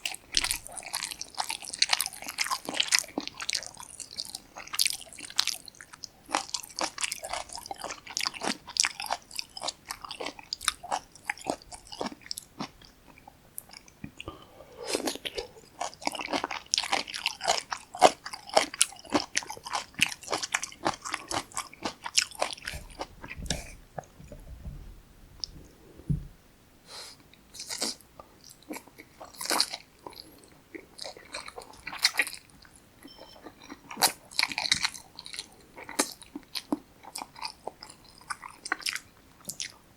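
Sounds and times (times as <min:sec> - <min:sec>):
wet chewing and crunching: 0:00.0 - 0:14.3, 0:14.9 - 0:24.1, 0:27.6 - 0:39.9.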